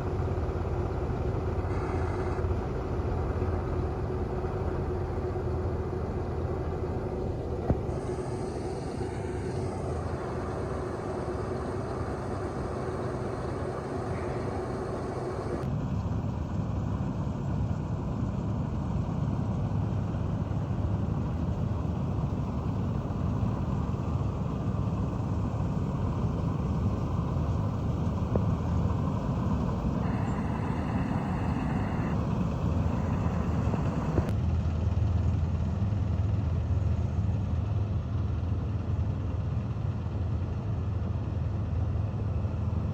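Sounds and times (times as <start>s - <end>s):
combine harvester engine drone: 0.0s - 42.9s.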